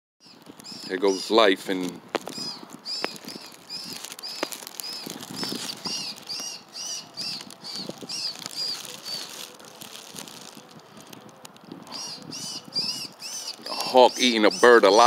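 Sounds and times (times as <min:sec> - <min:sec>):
bird calling: 0:00.2 - 0:10.6, 0:11.8 - 0:15.0.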